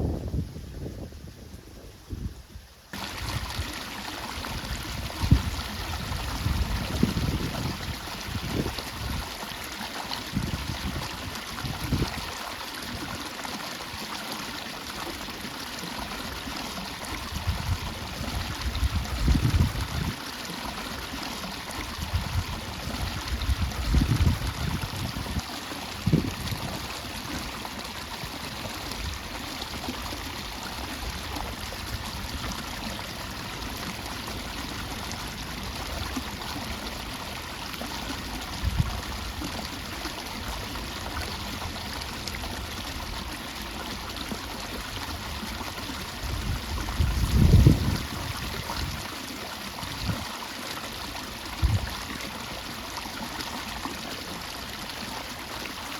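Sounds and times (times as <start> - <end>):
water rushing into reservoir: 2.9 - 55.9.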